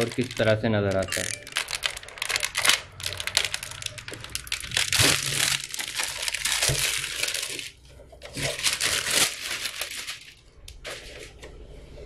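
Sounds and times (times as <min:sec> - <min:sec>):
plastic film crackling: 0:00.0 - 0:11.4.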